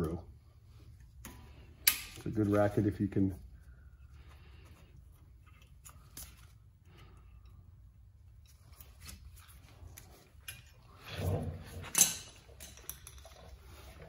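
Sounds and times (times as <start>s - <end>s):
low room noise: 0.0s - 14.0s.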